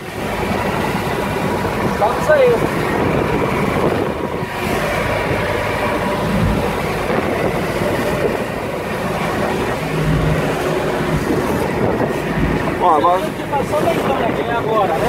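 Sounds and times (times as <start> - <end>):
hull thumping on water: 0.0 - 15.0
motorboat engine rumble: 0.0 - 15.0
rushing water: 0.0 - 15.0
wind buffeting microphone: 0.0 - 15.0.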